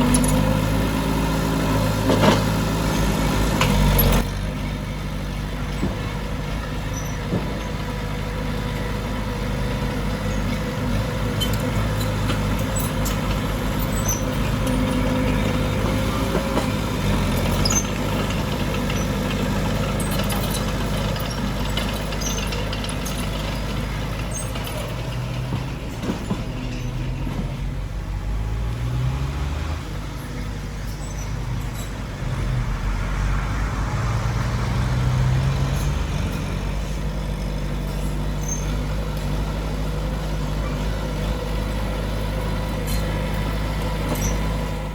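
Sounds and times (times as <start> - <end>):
heavy diesel engine revving: 0.0 - 44.9.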